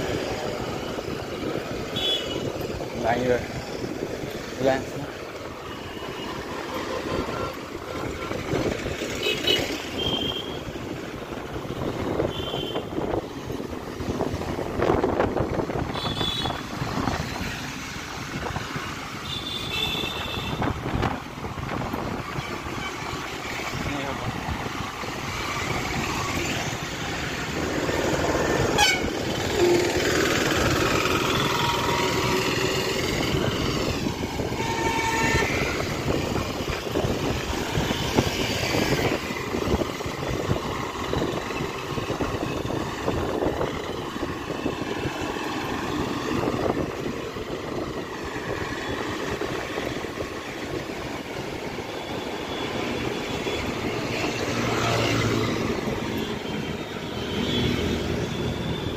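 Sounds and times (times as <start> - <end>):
motorbikes passing: 0.0 - 58.9
road traffic noise: 0.0 - 58.9.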